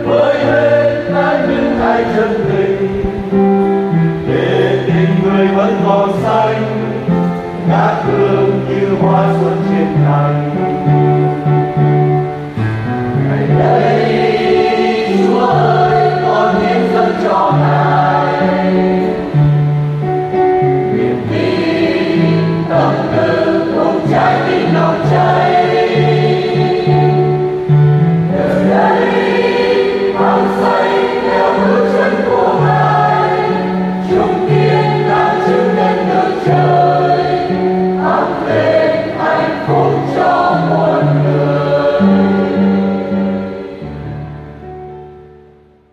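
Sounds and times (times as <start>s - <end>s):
choir singing a hymn: 0.0s - 44.7s
instrumental accompaniment with bass: 0.0s - 45.9s.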